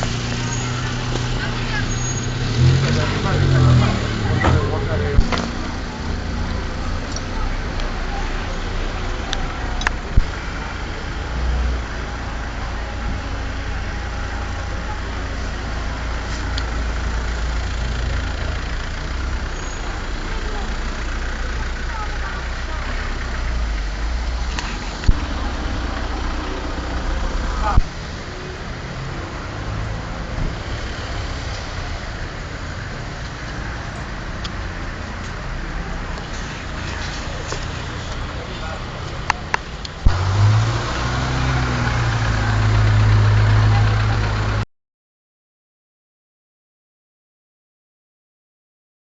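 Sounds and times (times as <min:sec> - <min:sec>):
traffic on a wet street: 0:00.0 - 0:44.6
vehicle engines rumbling: 0:00.0 - 0:44.7.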